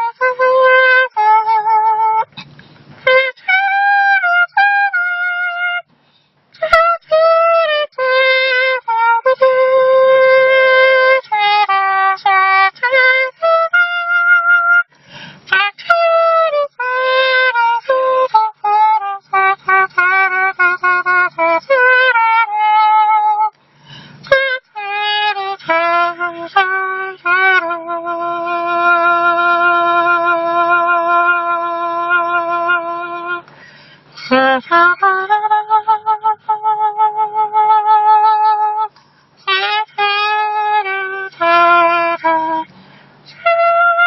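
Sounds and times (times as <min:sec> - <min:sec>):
hand-made saxophone-like melody: 0:00.0 - 0:44.0.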